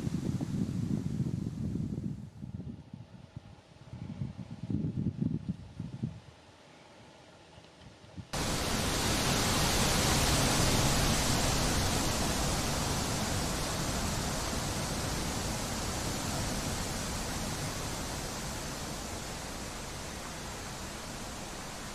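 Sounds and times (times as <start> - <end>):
wind rushing hiss: 0.0 - 6.9, 8.3 - 21.9.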